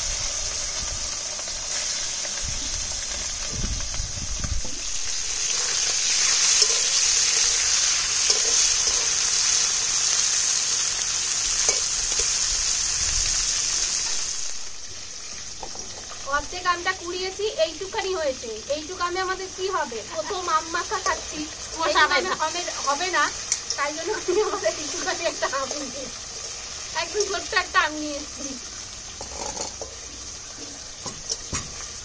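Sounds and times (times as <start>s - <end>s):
fish sizzling in hot oil: 0.0s - 32.0s.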